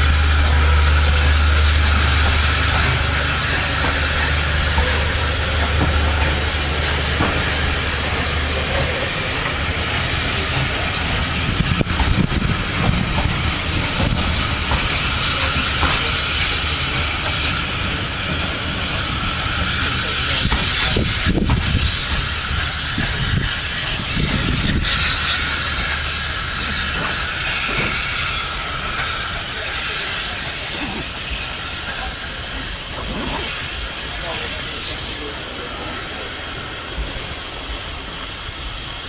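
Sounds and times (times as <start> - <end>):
steam hissing: 0.0 - 39.0
train rumble with light ticks: 0.0 - 39.0.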